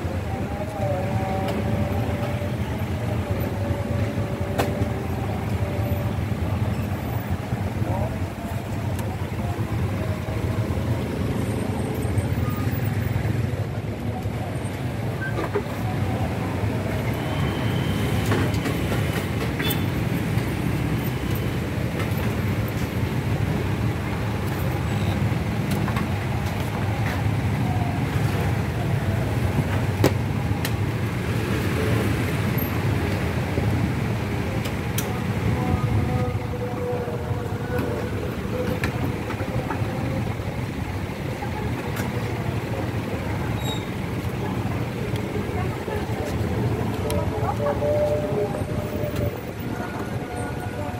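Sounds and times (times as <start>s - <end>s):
road traffic: 0.0s - 50.9s
vehicle engines idling: 0.0s - 50.9s.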